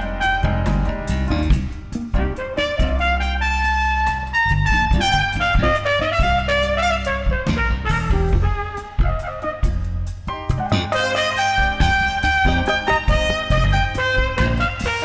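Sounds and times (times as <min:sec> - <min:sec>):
flugelhorn jazz solo: 0:00.0 - 0:01.4, 0:02.2 - 0:15.0
jazz band with bass and drums: 0:00.0 - 0:15.0.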